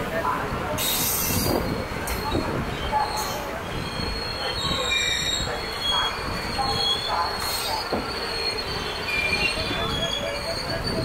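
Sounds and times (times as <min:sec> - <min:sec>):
train wheels rumbling on rail: 0:00.0 - 0:11.0
high wheel squeal: 0:00.8 - 0:11.0.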